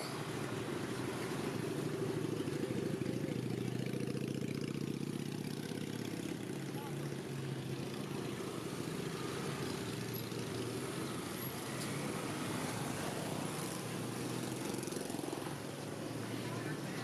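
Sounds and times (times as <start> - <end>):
motor scooters passing: 0.0 - 17.0.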